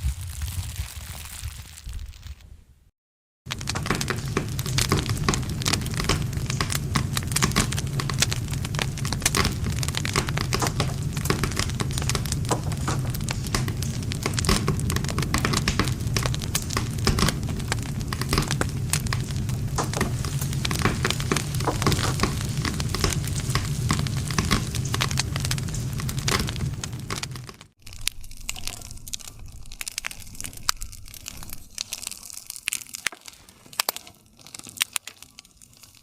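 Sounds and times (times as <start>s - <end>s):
campfire crackling and popping: 3.5s - 36.0s.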